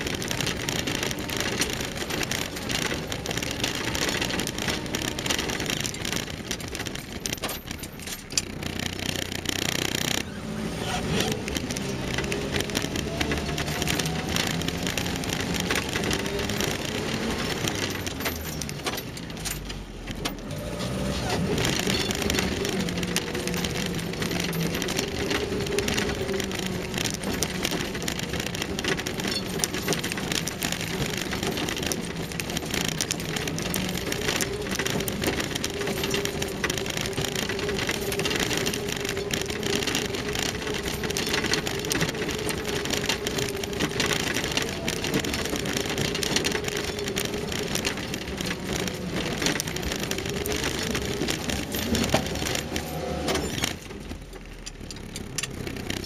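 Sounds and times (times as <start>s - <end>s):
engine humming: 0.0s - 56.0s
tyres crackling on stones: 0.0s - 56.0s.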